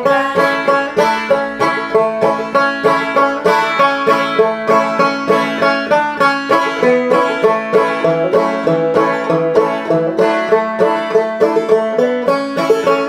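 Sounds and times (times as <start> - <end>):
banjo playing: 0.0 - 13.0.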